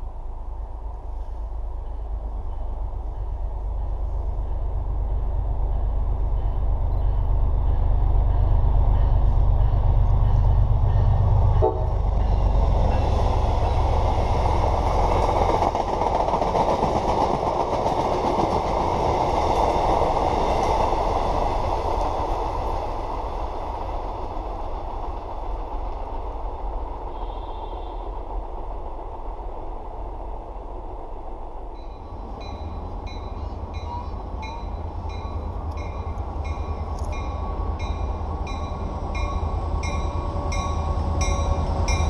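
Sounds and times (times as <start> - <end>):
diesel locomotive rumble: 0.0 - 42.0
train wheels rushing on rails: 0.0 - 42.0.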